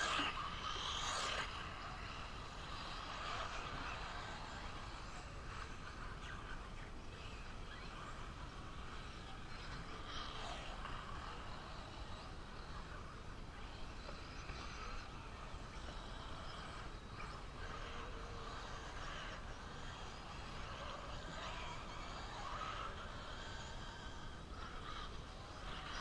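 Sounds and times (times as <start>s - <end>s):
rc car motor whine: 0.0s - 26.0s.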